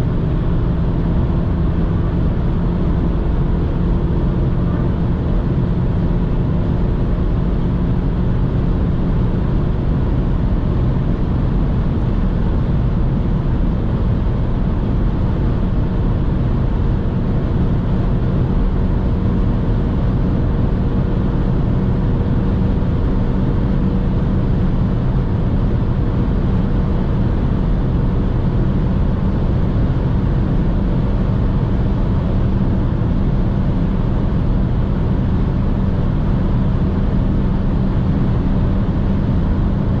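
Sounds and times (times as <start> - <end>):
car engine droning at high revs: 0.0 - 40.0.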